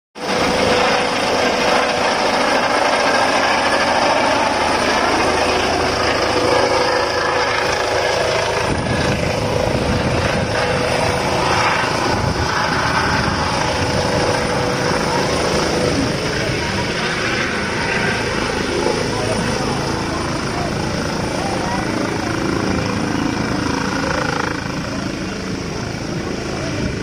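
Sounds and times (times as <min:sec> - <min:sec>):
helicopter engine whine: 0:00.2 - 0:27.0.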